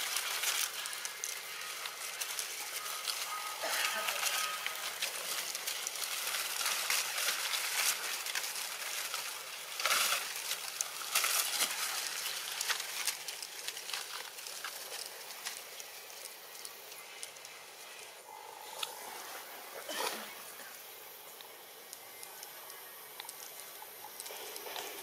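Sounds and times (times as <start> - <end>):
leaves and undergrowth rustling: 0.0 - 25.0.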